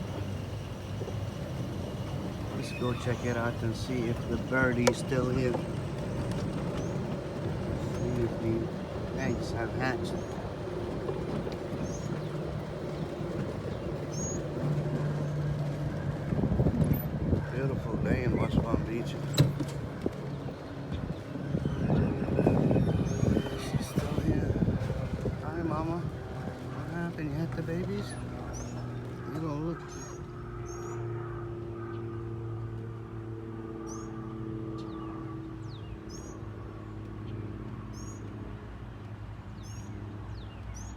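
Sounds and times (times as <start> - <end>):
low motor hum: 0.0 - 40.9
small birds chirping: 0.2 - 16.1, 17.5 - 26.1, 26.8 - 32.2, 33.8 - 40.9.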